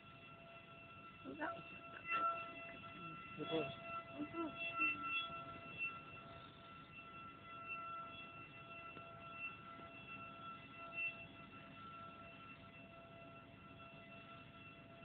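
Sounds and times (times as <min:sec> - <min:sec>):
high-pitched alarm tone: 0:00.0 - 0:15.0.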